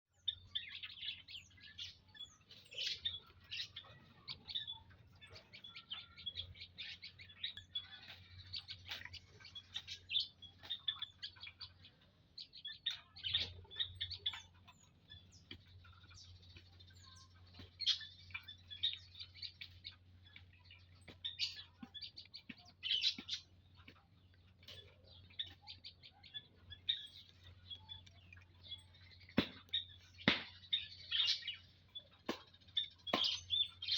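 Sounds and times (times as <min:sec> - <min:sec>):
small songbirds chirping: 0:00.0 - 0:33.9.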